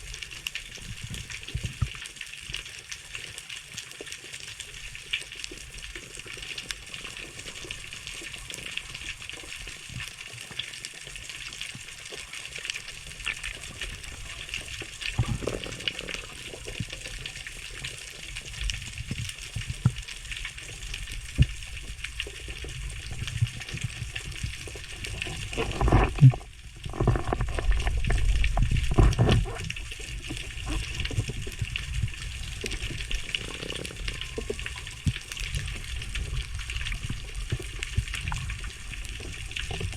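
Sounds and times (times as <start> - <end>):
crackling hiss of fine clicks: 0.0 - 39.9
underwater rushing water surges: 4.4 - 39.9.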